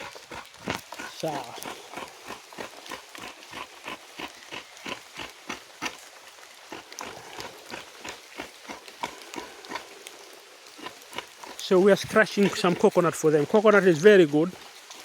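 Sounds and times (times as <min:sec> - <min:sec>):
coconut grating rasps: 0:00.0 - 0:15.0.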